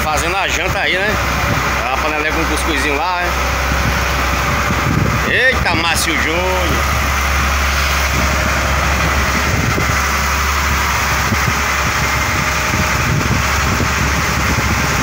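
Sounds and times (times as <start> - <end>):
boat engine humming: 0.0 - 15.0
wind and sea rushing: 0.0 - 15.0.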